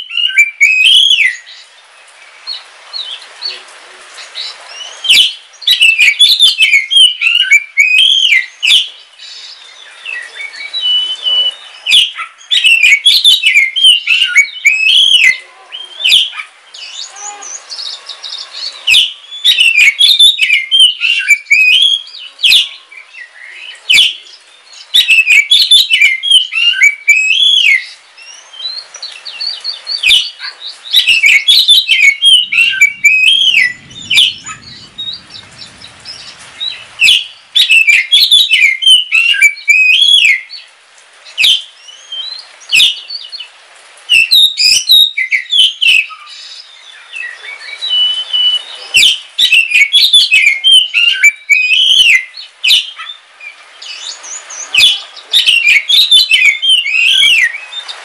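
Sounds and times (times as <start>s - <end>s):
bird singing whistled notes: 0.0s - 1.7s, 4.3s - 40.7s, 41.4s - 43.5s, 44.1s - 57.9s.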